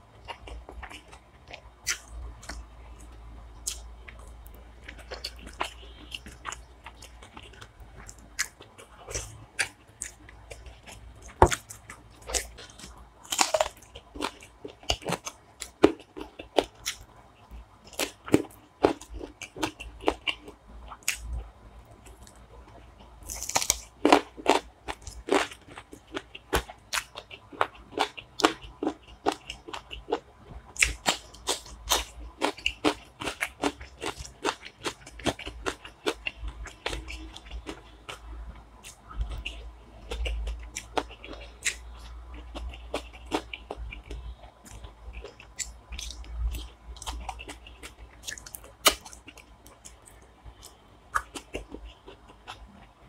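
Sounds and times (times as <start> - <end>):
wet chewing and crunching: 0.0 - 53.0.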